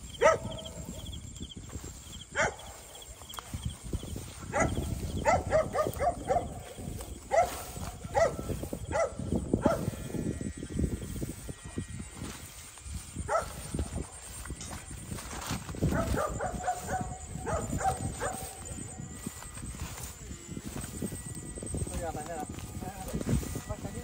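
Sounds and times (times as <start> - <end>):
night insects trilling: 0.0 - 24.0
rustling through leafy plants: 1.8 - 24.0.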